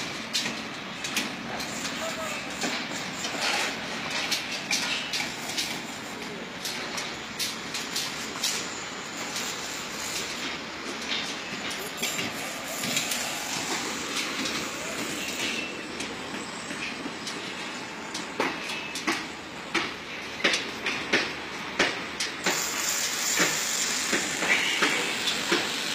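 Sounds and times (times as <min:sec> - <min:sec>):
building site din: 0:00.0 - 0:25.9.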